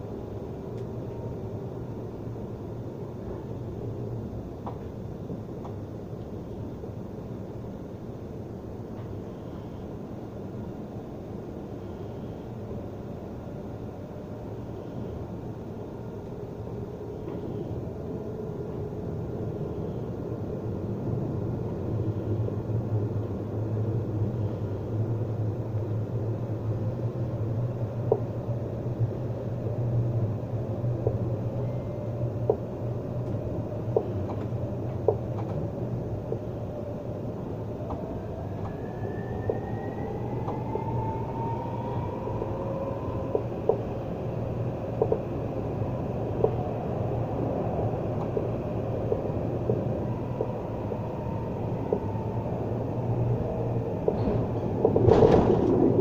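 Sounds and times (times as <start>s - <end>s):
tram rumbling: 0.0s - 56.0s.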